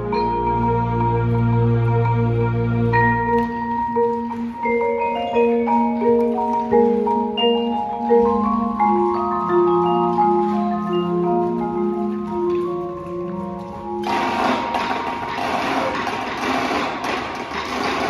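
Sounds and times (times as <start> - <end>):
marimbas playing slow melody: 0.0 - 16.7.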